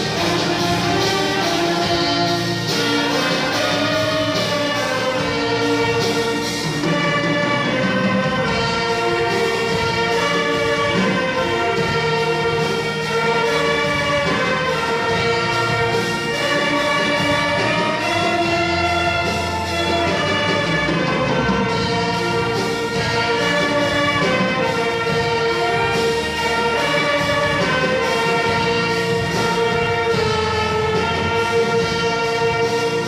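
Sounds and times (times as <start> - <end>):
orchestra with brass playing a hymn: 0.0 - 33.0.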